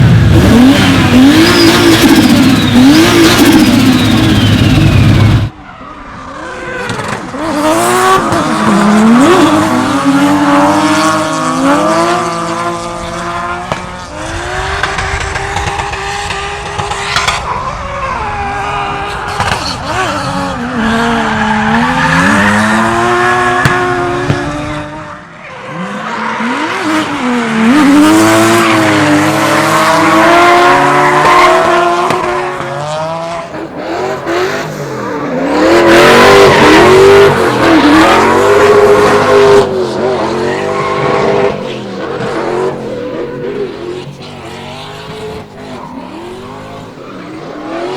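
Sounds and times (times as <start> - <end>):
car engine revving: 0.0 - 5.5, 6.2 - 47.9.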